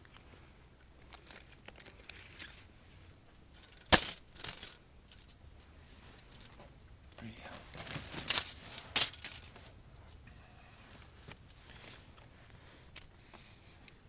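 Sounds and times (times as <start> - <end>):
handling clicks and rustles: 0.0 - 14.0.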